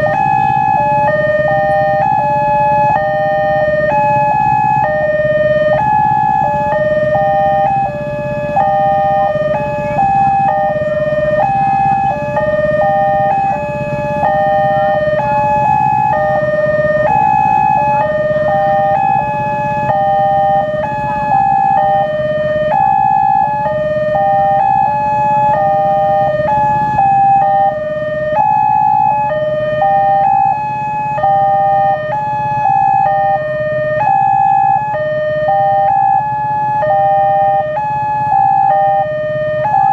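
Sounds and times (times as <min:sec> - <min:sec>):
level crossing two-tone alarm: 0:00.0 - 0:39.9
low steady rumble: 0:00.0 - 0:39.9.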